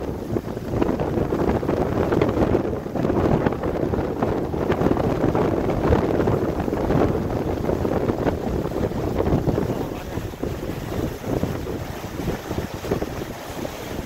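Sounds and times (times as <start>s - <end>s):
river water rushing: 0.0s - 14.0s
wind buffeting microphone: 0.0s - 14.0s.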